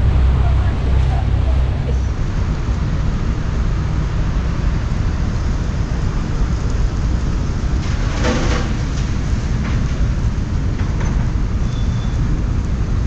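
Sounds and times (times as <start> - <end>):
boat engine low rumble: 0.0 - 13.0
rushing wind and water: 0.0 - 13.0.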